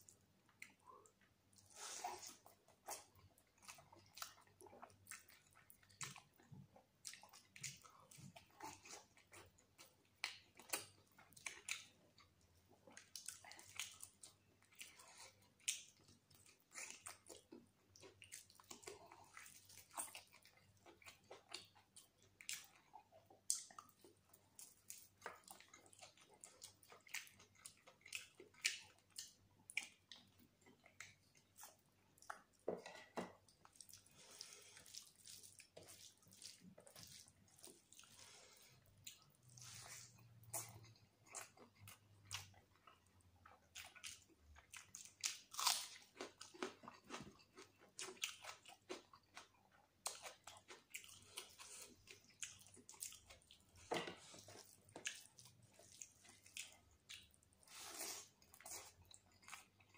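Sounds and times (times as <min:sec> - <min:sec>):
man chewing and lip-smacking: 0:00.0 - 0:59.9.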